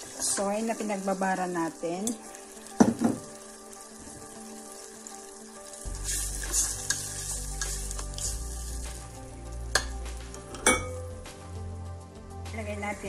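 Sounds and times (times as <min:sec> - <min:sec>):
sauce sizzling in a pot: 0:00.0 - 0:11.8.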